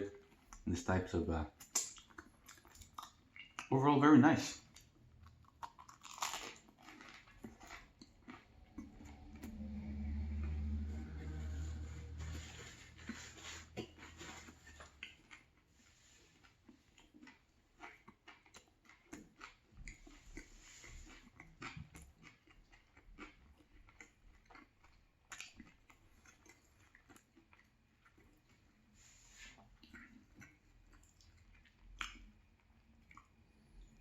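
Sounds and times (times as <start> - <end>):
chewing and crunching sandwich: 1.6 - 3.8, 4.5 - 34.0.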